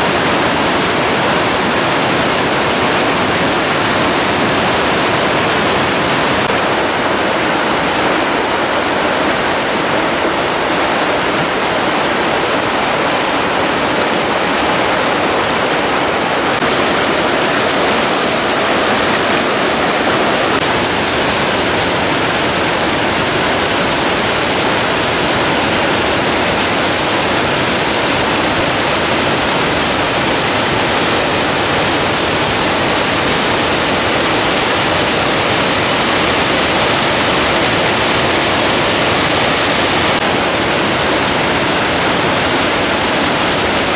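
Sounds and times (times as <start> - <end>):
whitewater rushing over boulders: 0.0 - 43.9.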